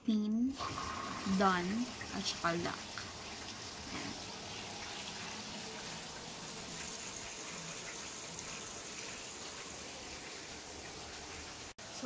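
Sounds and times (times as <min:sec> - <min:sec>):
washing machine filling with water: 0:00.2 - 0:12.0.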